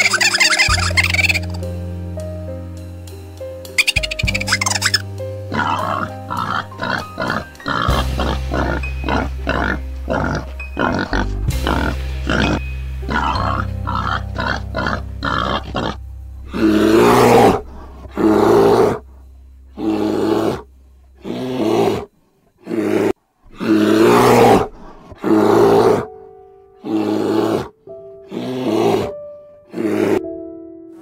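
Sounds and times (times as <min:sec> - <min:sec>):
animal calling: 0:00.0 - 0:01.7, 0:03.8 - 0:19.0, 0:19.8 - 0:26.1, 0:26.8 - 0:30.2
background music: 0:00.0 - 0:22.0, 0:23.6 - 0:31.0.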